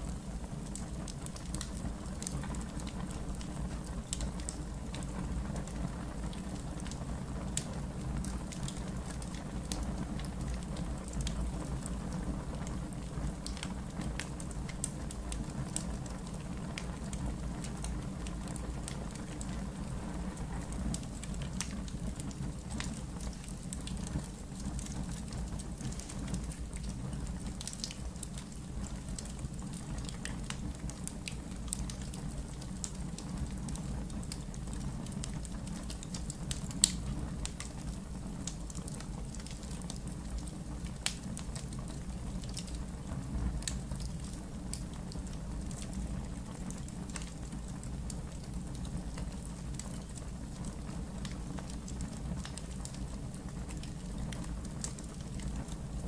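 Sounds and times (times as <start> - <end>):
fire flames rumbling: 0.0 - 56.0
logs crackling and popping: 0.1 - 56.0.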